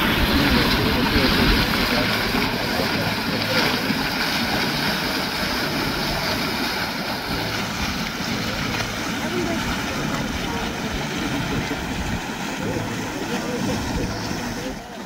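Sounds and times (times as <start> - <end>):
hot spring water churning: 0.0 - 15.0.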